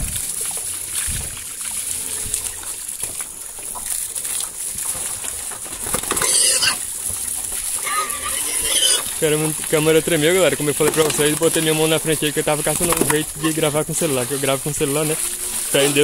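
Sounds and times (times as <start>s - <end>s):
liquid splashing from a hose: 0.0s - 16.0s
pigs grunting and feeding: 0.0s - 16.0s.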